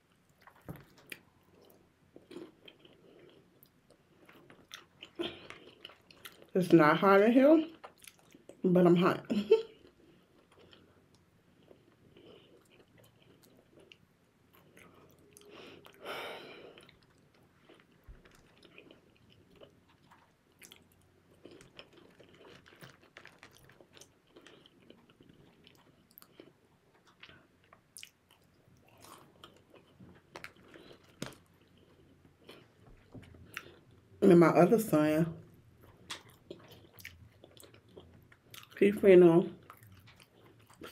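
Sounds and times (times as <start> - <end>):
close-up chewing: 0.1 - 6.6, 7.7 - 8.6, 9.8 - 34.1, 35.7 - 38.8, 39.6 - 40.9.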